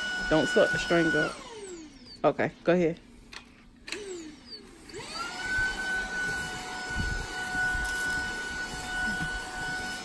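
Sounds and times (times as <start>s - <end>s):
vacuum motor whining: 0.0s - 10.0s.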